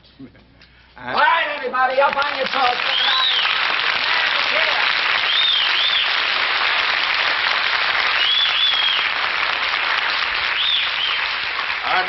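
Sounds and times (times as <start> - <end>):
studio audience applauding: 1.1 - 12.0.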